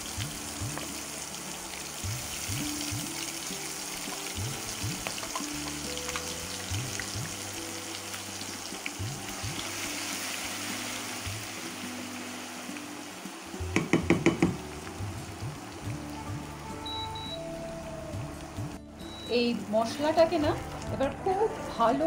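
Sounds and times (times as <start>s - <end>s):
soft background music: 0.0s - 22.0s
spices sizzling in hot oil: 0.0s - 22.0s.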